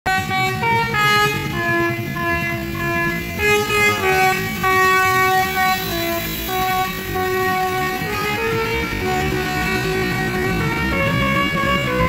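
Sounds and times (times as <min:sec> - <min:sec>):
bus rumble: 0:00.1 - 0:12.0
multi-note air horn tune: 0:00.1 - 0:12.0.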